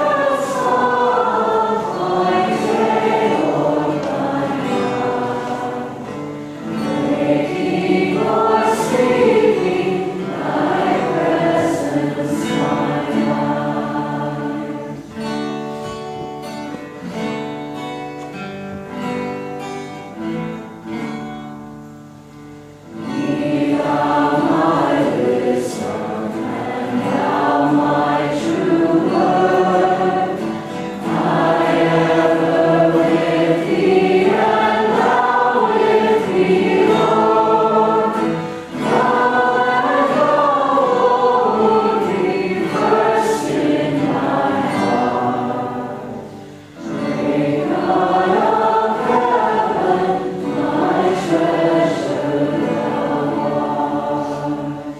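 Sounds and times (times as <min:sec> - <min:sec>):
choir singing: 0:00.0 - 0:15.4, 0:22.9 - 0:54.9.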